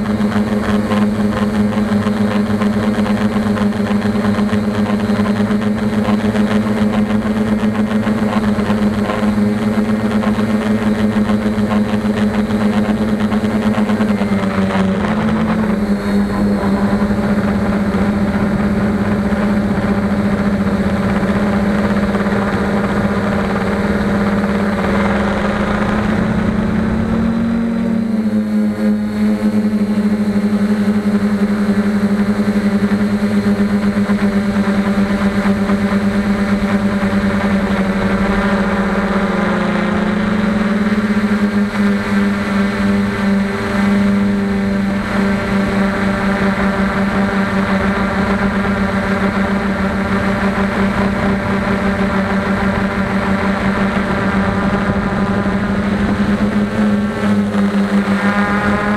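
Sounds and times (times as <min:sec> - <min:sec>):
drone motors whining: 0:00.0 - 0:58.9.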